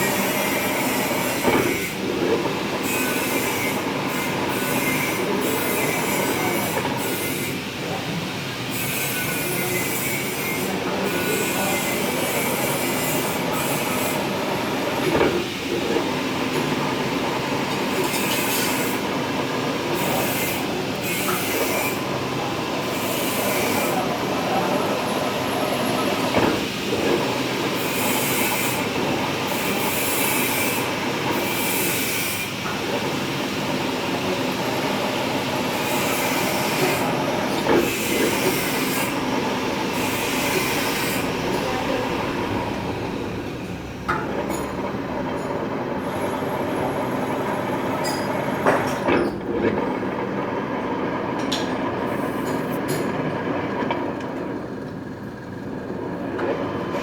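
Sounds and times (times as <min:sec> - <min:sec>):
lathe machining: 0:00.0 - 0:57.0.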